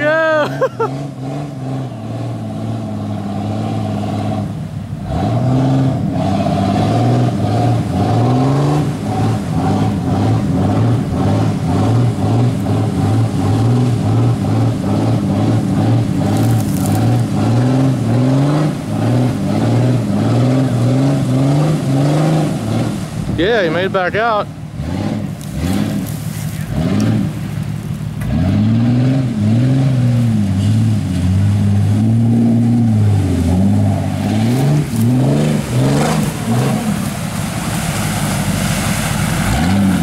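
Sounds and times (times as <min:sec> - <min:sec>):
engine revving under load: 0:00.6 - 0:40.0.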